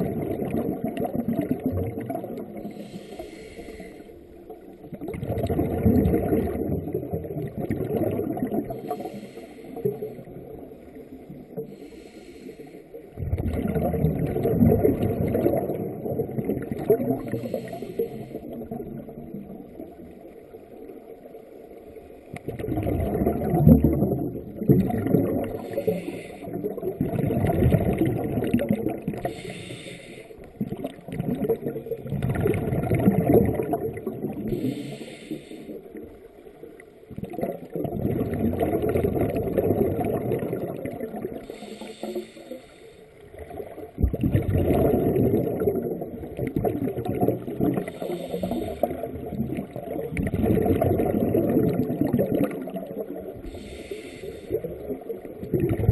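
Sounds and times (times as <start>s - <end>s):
underwater regulator exhaust bubbles: 0.0s - 3.9s, 4.5s - 20.2s, 22.3s - 36.1s, 37.1s - 55.9s.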